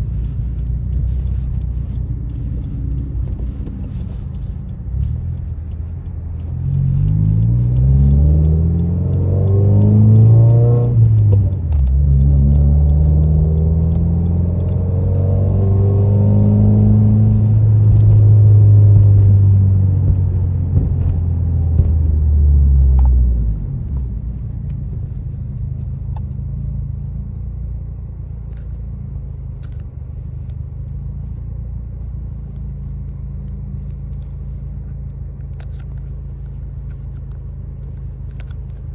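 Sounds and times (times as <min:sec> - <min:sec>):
car engine accelerating: 0:00.0 - 0:38.9
low rumble of car rolling: 0:00.0 - 0:38.9.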